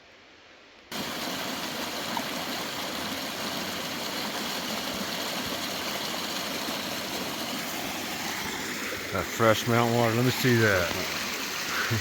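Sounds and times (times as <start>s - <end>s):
creek water rushing: 0.9s - 12.0s.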